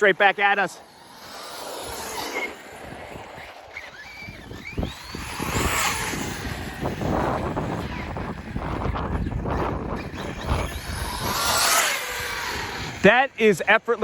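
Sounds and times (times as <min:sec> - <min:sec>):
rc car motor whine: 0:00.2 - 0:14.0.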